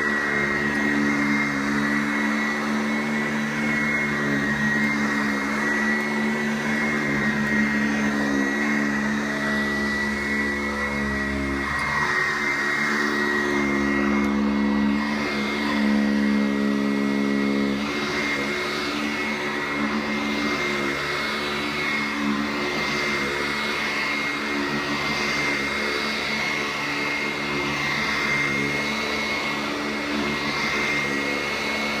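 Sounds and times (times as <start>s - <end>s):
vacuum cleaner running on carpet: 0.0s - 32.0s.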